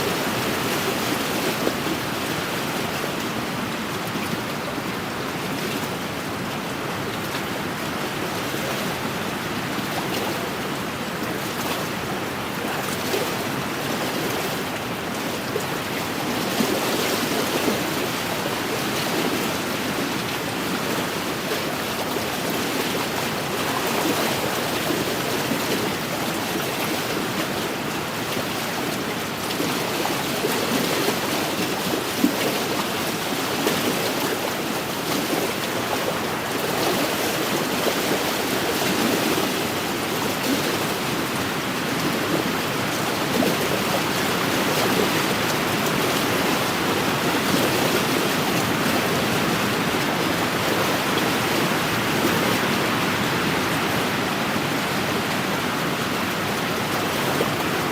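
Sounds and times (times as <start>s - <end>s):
waves lapping on a shore: 0.0s - 57.9s.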